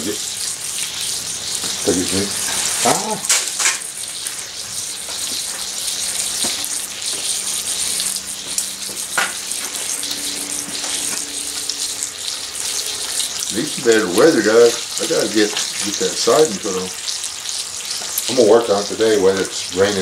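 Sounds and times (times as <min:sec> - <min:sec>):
bacon sizzling in skillet: 0:00.0 - 0:20.0.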